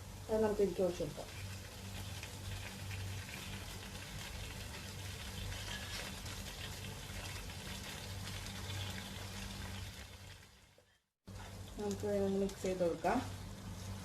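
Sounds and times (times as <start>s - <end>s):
gravy sizzling and bubbling: 0.0s - 14.0s.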